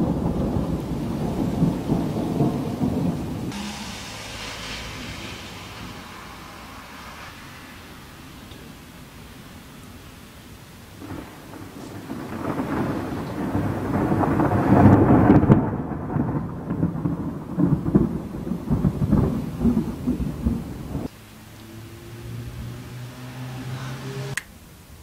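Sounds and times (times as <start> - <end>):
close thunder rolling: 0.0 - 21.1.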